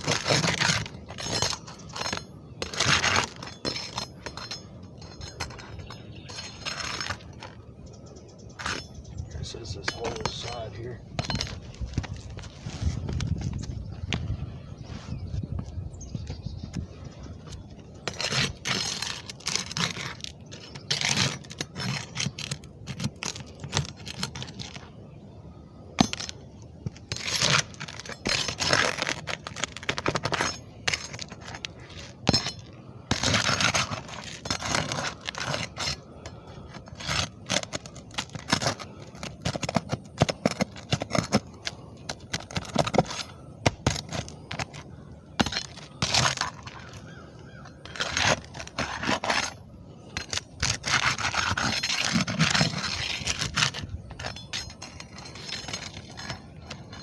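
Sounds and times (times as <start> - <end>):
material scraping and cracking: 0.0 - 7.8, 8.5 - 25.0, 26.0 - 57.0.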